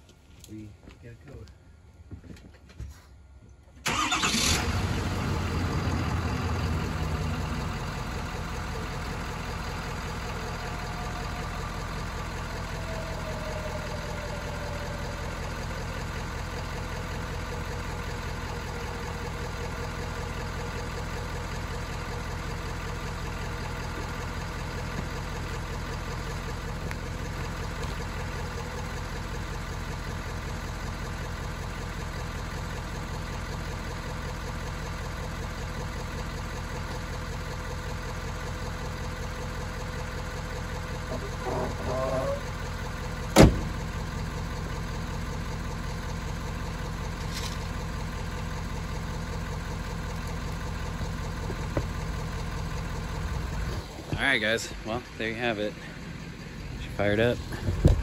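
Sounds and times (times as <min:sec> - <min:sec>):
diesel engine idling: 0:03.8 - 0:58.0.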